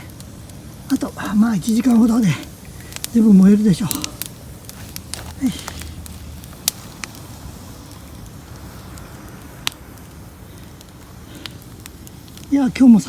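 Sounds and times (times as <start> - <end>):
bonfire hissing: 0.0 - 13.0
fire popping: 0.0 - 13.0.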